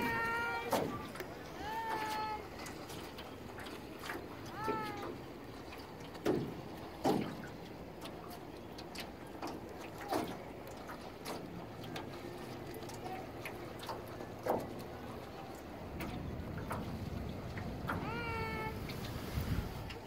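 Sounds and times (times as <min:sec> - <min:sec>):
knocks and ticks on hull: 0:00.0 - 0:19.2
waves slapping against canoe hull: 0:00.0 - 0:20.0.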